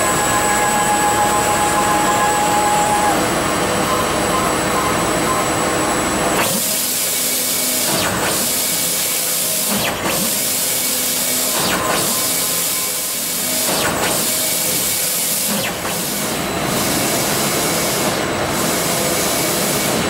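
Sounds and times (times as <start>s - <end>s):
printer machine whir: 0.0s - 20.0s.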